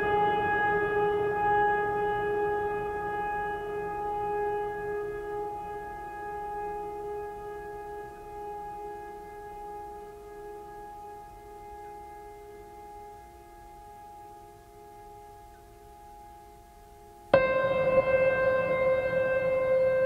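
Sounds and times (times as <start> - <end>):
held chord music: 0.0 - 20.0.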